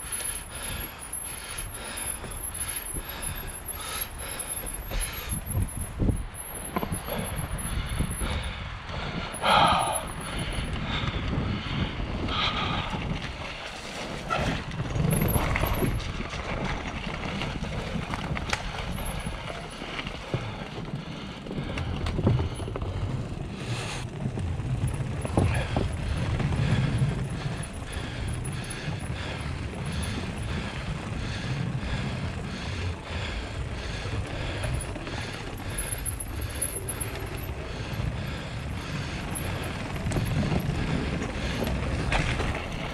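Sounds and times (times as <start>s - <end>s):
bike rattling: 0.0s - 42.9s
wind buffeting microphone: 0.5s - 42.9s.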